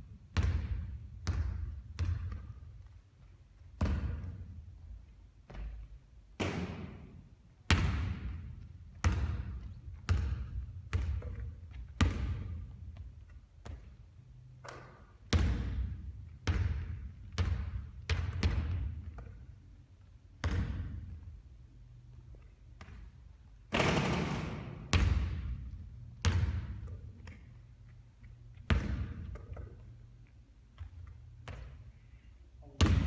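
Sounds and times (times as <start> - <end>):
basketball bouncing with echo: 0.1 - 19.6, 20.4 - 21.6, 22.4 - 31.9, 32.7 - 33.0.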